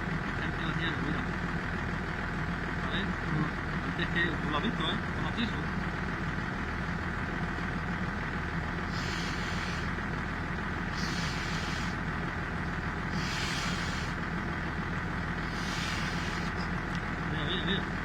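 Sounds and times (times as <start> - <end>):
engine idling hum: 0.0 - 18.0.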